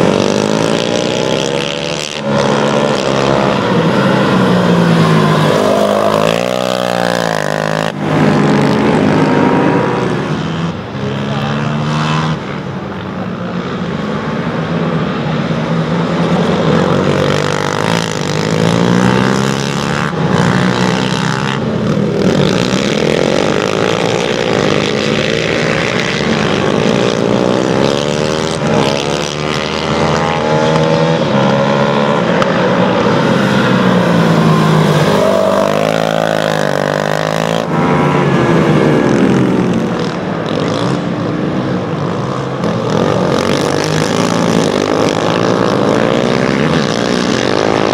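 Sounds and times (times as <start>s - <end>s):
quad bike engines revving: 0.0s - 47.9s.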